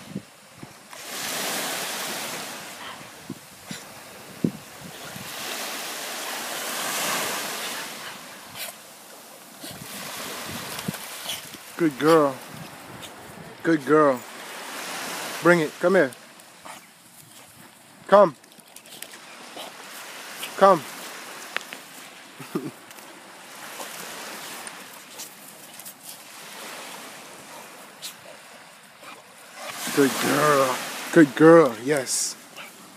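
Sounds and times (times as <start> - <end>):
wave breaking on beach: 0.9 - 16.4, 19.4 - 32.6.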